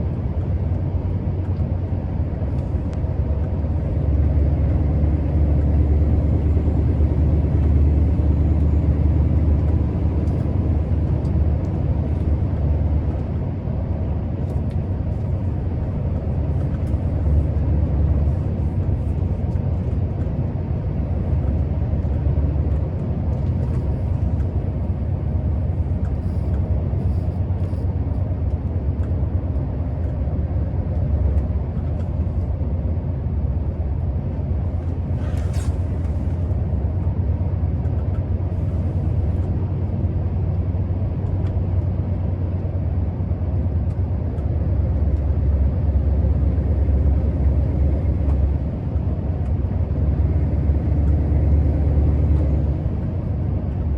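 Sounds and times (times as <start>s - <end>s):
diesel truck engine droning: 0.0s - 53.9s
road rumble: 0.0s - 53.9s.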